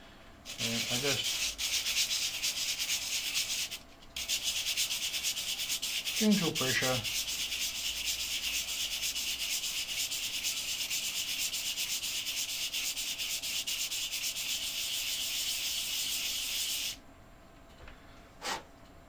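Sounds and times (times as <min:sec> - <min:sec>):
plastic part sanding scrape: 0:00.5 - 0:17.0.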